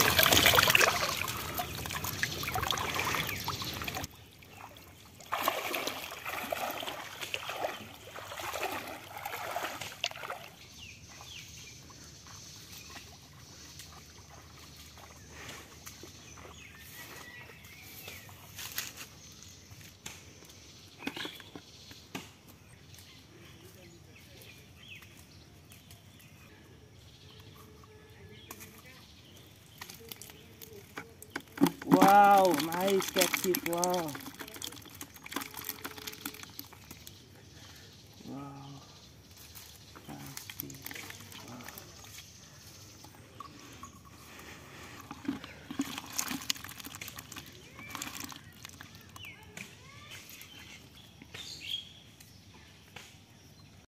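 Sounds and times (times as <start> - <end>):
birds chirping: 0.0 - 53.8.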